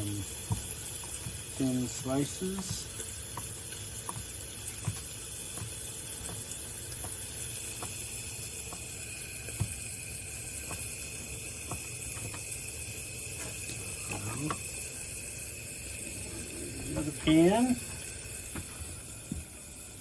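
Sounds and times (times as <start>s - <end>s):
chicken frying in a pan: 0.0s - 20.0s.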